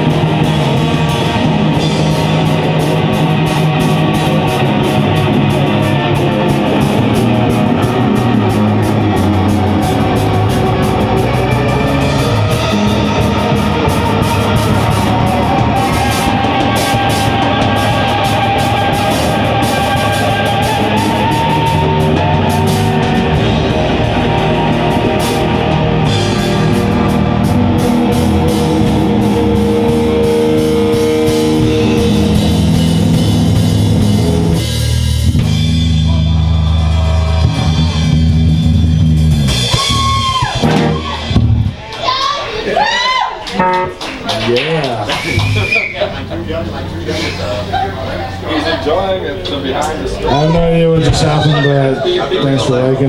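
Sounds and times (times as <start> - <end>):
rock band playing loudly: 0.0 - 53.0.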